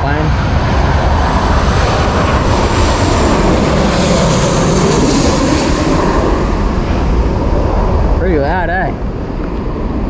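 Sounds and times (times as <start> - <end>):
airplane engine rushing: 0.0 - 10.0.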